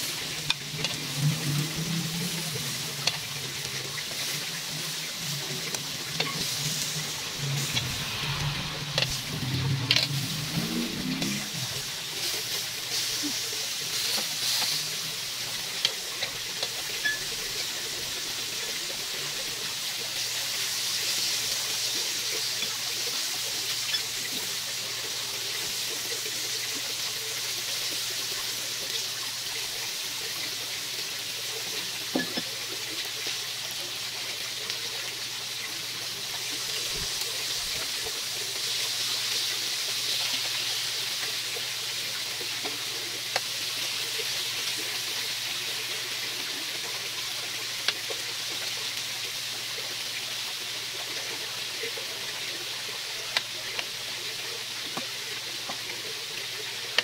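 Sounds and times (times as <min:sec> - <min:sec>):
chicken sizzling on grill: 0:00.0 - 0:57.0.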